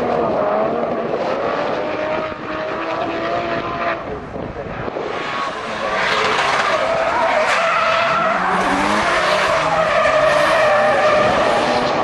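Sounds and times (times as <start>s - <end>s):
car engines at high revs: 0.0s - 12.0s.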